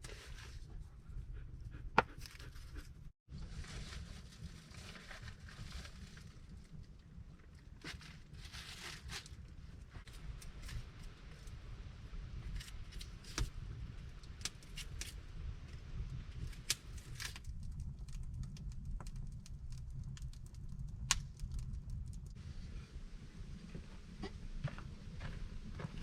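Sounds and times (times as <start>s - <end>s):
low steady rumble: 0.1s - 26.0s.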